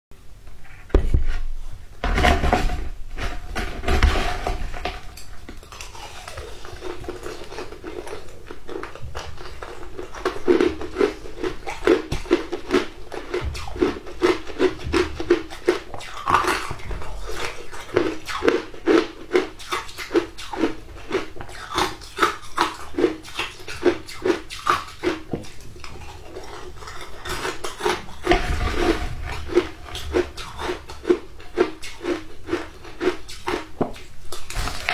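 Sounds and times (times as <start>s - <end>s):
crunching ice being chewed: 5.0s - 34.9s.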